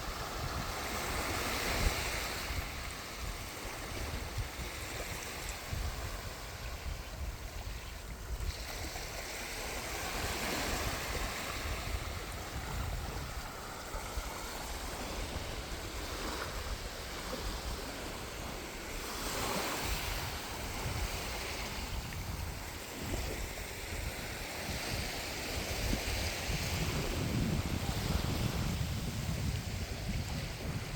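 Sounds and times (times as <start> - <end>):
sea waves breaking on shore: 0.0 - 30.9.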